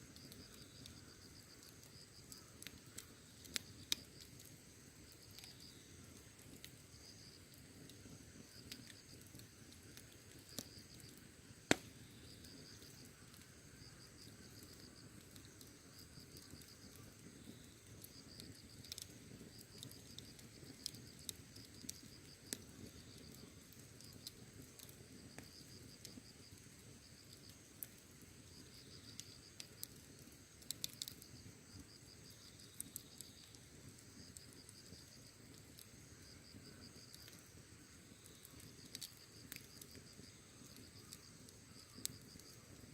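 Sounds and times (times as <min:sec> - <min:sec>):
campfire crackling and popping: 0:00.0 - 0:42.9
crickets chirping: 0:00.1 - 0:42.9.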